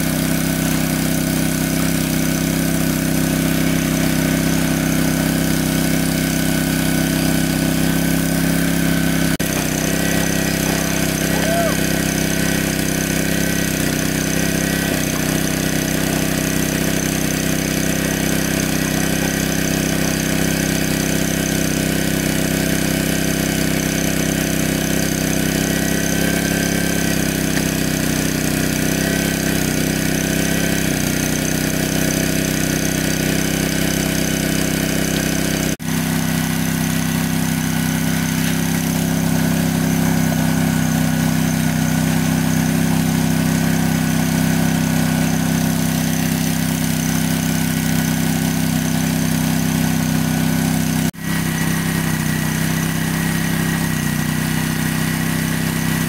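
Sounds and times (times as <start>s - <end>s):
water pump engine running: 0.0s - 56.0s.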